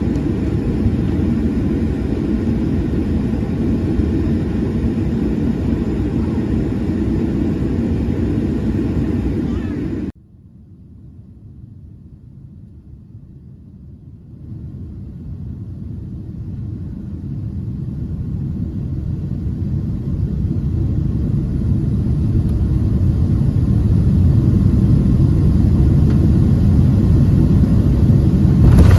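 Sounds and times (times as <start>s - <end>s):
airliner takeoff roll rumble: 0.0s - 28.9s.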